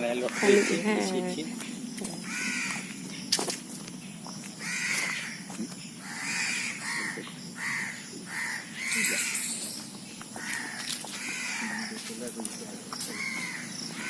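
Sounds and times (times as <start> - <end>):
crows cawing: 0.2 - 1.1, 2.2 - 3.2, 4.6 - 14.0.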